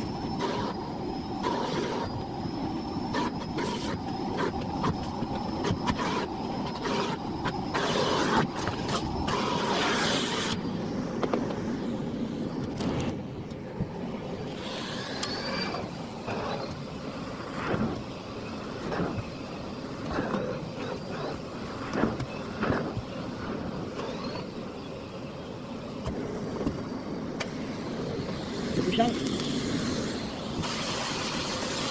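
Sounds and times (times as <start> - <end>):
vacuum cleaner running: 0.0 - 24.8, 26.0 - 31.9.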